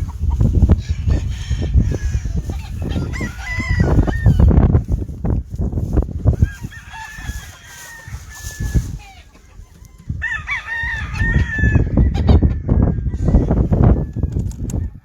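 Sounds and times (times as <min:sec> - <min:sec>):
roosters crowing: 0:00.0 - 0:15.0.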